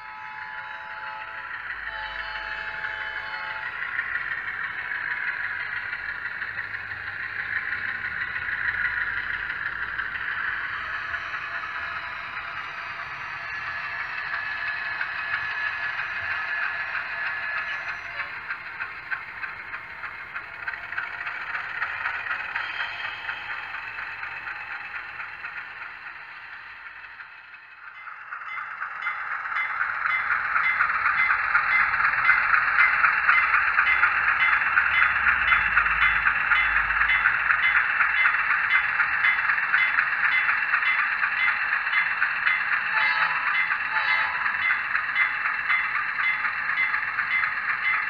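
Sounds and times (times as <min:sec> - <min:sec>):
simulated diesel engine through small speaker: 0:00.0 - 0:48.0.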